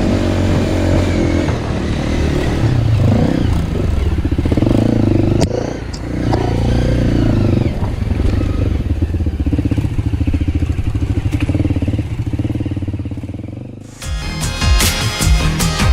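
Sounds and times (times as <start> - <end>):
dirt bike engine running: 0.0 - 15.9.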